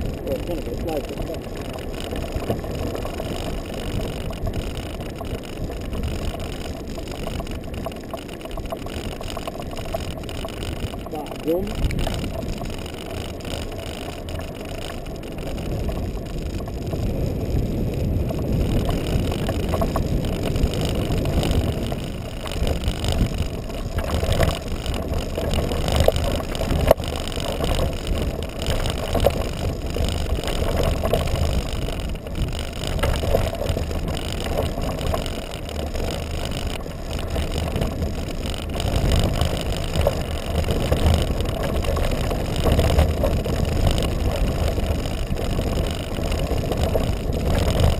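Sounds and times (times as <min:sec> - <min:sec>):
buggy tyres rumbling on sand: 0:00.0 - 0:47.9
wind: 0:00.0 - 0:47.9.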